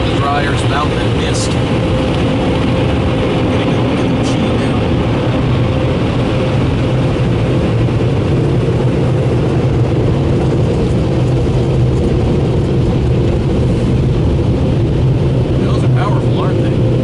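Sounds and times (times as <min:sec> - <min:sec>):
car wash dryer blowers: 0:00.0 - 0:17.0
low hum: 0:00.0 - 0:17.0.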